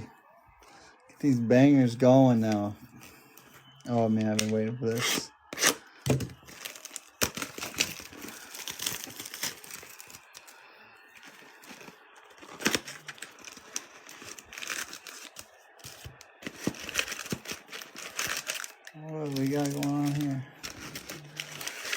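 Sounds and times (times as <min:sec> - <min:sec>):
plastic wrap crinkling: 0:03.9 - 0:21.9.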